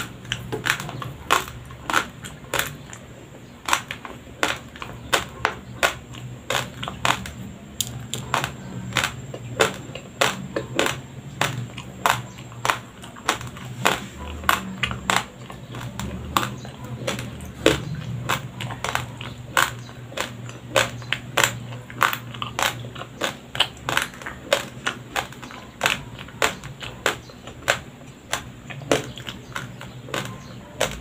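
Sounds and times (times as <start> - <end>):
chewing raw rice grains crunching: 0.0 - 31.0.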